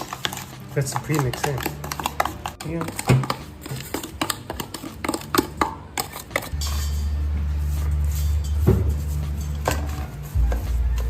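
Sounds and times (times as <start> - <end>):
background music with low bass: 0.0 - 11.0
utensils clinking against dishes: 0.0 - 11.0.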